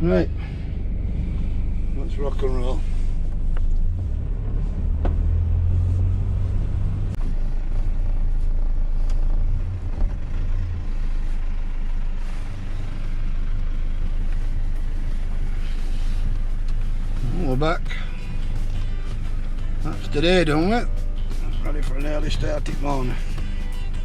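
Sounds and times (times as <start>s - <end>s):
van engine and road rumble: 0.0s - 24.0s.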